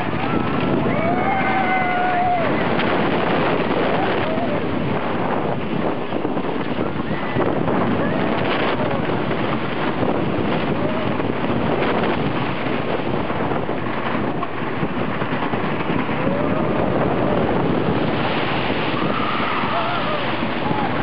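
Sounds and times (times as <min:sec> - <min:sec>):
roller coaster rumbling on track: 0:00.0 - 0:21.0
wind rushing on microphone: 0:00.0 - 0:21.0.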